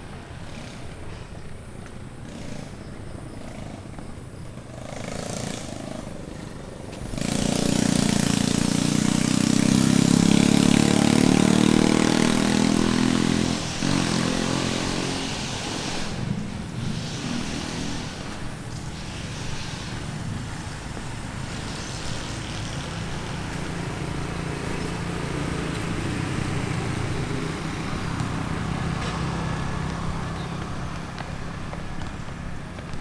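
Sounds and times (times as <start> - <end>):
vehicle engine passing: 0.0 - 33.0.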